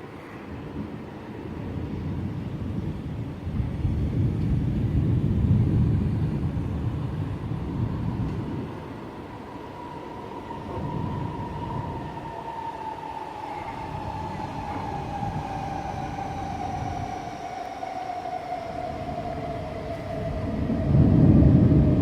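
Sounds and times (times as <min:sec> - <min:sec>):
rushing rumbling noise: 0:00.5 - 0:22.0
passing vehicle whine: 0:01.6 - 0:22.0.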